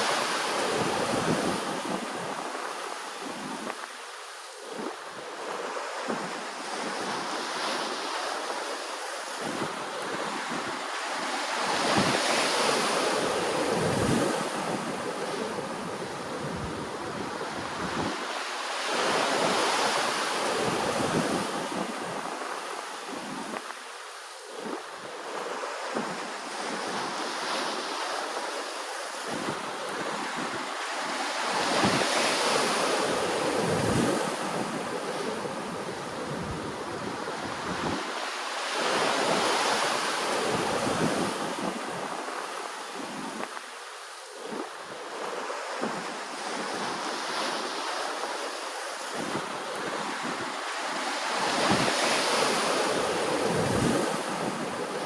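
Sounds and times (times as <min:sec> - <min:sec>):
ocean waves washing ashore: 0:00.0 - 0:55.0
wind noise on microphone: 0:00.0 - 0:55.0.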